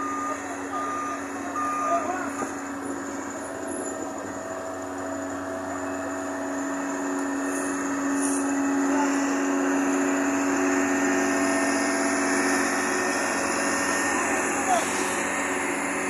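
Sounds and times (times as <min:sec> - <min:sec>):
diesel engine droning hum: 0:00.0 - 0:16.0.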